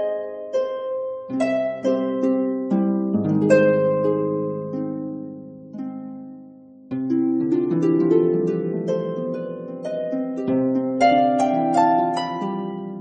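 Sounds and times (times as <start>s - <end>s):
gentle harp-like melody: 0.0s - 13.0s.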